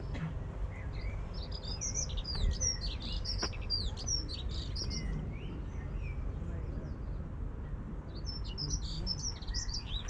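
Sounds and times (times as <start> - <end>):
songbirds chirping and whistling: 0.0 - 10.0.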